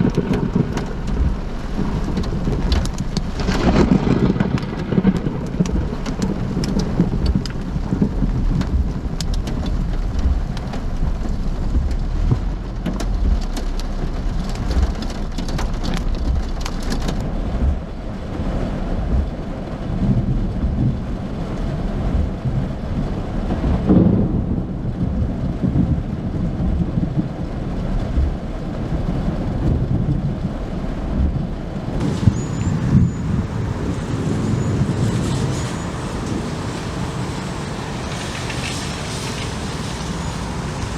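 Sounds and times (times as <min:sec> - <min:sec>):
heavy low rumble: 0:00.0 - 0:40.9
heavy rain and wind: 0:00.0 - 0:40.9.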